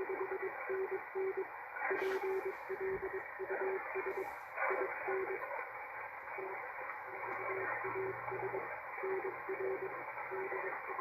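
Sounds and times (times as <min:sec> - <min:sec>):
radio band hiss: 0:00.0 - 0:11.0.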